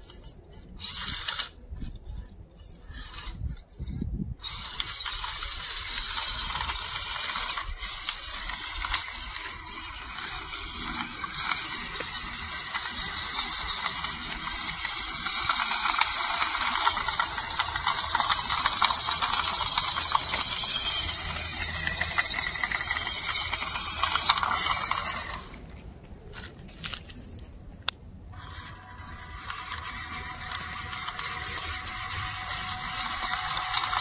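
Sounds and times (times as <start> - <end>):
electric motor and gearbox whine: 0.0 - 27.5, 28.3 - 34.0.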